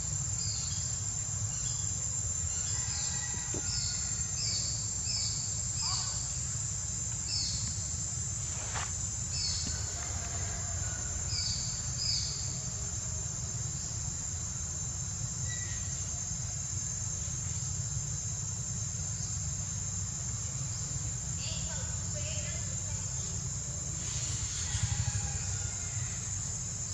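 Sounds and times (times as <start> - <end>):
insects droning: 0.0 - 26.9.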